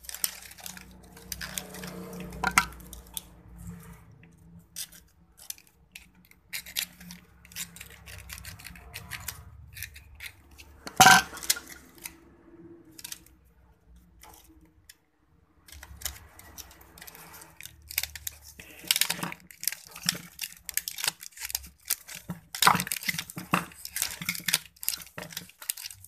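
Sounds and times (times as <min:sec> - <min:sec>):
wire and tools clicking and scraping: 0:00.0 - 0:26.0.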